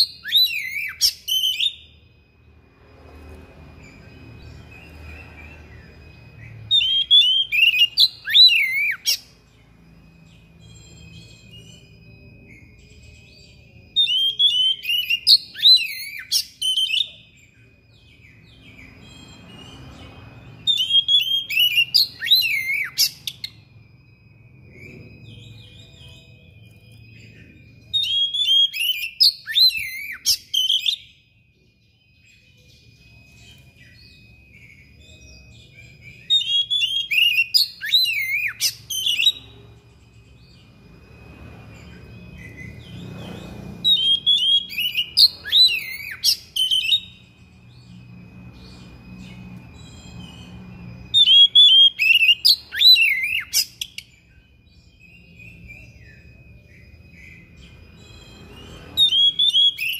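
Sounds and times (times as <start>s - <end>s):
songbird singing varied whistles: 0.0s - 2.2s, 3.8s - 59.9s.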